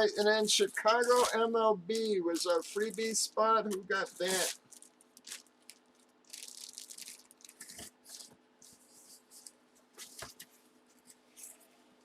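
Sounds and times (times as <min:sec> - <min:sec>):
faint steady hum: 0:00.0 - 0:12.0
rustling and handling noises: 0:00.0 - 0:12.0.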